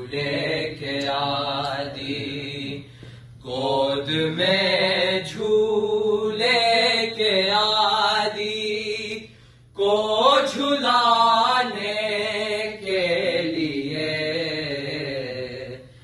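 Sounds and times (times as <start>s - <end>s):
men singing a lament: 0.0s - 9.2s, 9.8s - 15.9s.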